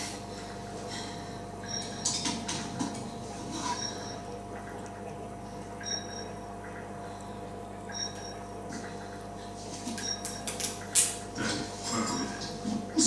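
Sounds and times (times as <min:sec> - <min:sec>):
aquarium filter pump humming: 0:00.0 - 0:13.0.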